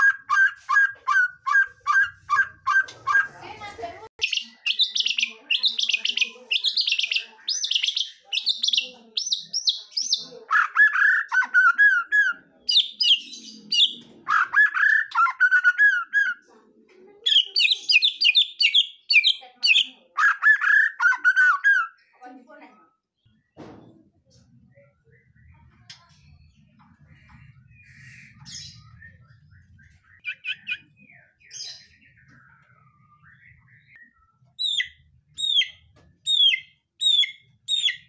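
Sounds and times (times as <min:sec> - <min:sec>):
songbird singing: 0:04.2 - 0:16.4, 0:17.3 - 0:22.1, 0:24.2 - 0:38.0.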